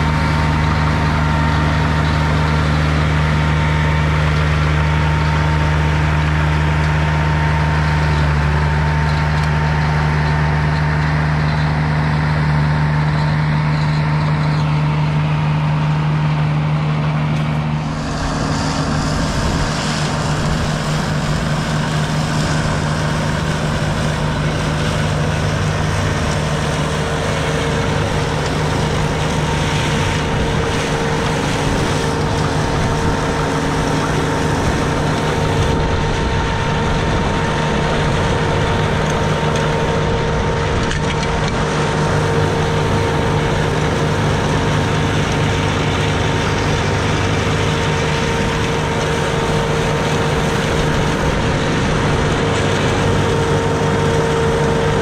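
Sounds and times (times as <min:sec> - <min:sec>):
mower mulching grass: 0:00.0 - 0:55.0.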